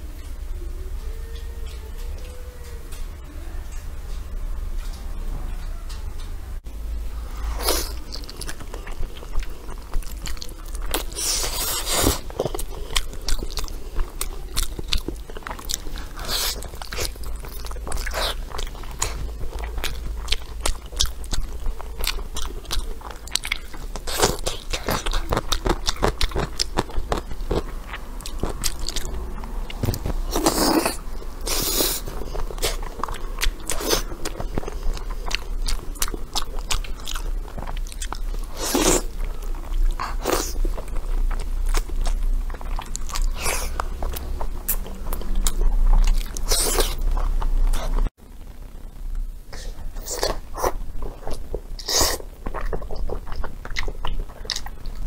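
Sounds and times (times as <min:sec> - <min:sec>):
chewing and biting crunches: 0:07.6 - 0:48.1, 0:50.0 - 0:55.0.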